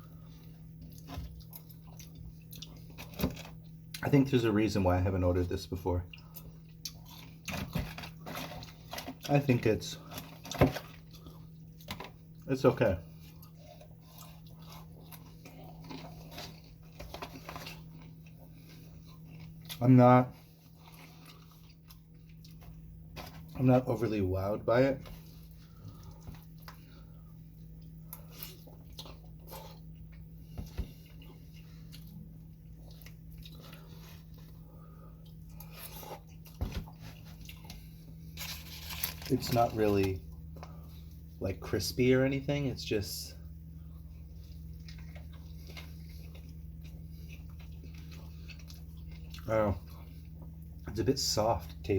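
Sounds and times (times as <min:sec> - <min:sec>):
person chewing: 0:00.0 - 0:04.1, 0:06.1 - 0:19.8, 0:20.4 - 0:23.6, 0:25.0 - 0:41.4, 0:43.4 - 0:50.9
low hum: 0:00.0 - 0:51.9.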